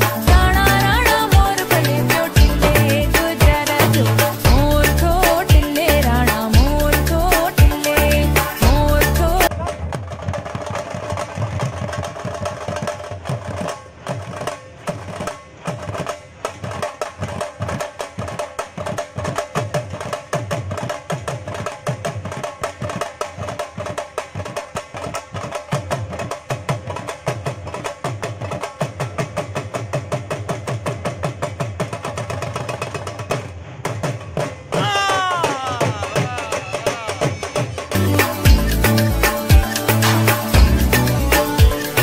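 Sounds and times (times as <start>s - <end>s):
group of drums playing fast rhythm: 0.0s - 42.0s.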